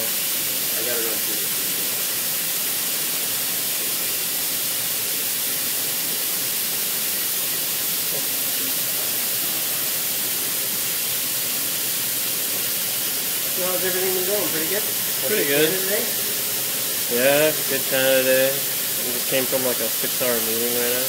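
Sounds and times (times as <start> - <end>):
cnc machine hissing: 0.0 - 21.0.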